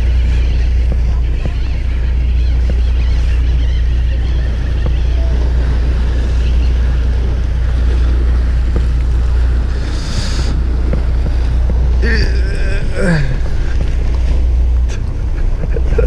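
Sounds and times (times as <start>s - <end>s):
boat engine hum: 0.0s - 16.0s
water washing: 0.0s - 16.0s
wind buffeting microphone: 0.0s - 16.0s.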